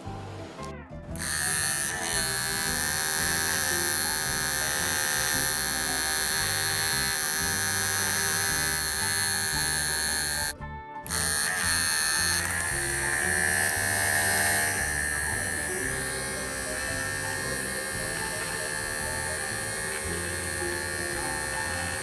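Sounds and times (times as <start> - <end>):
hair clipper humming: 0.0 - 22.0.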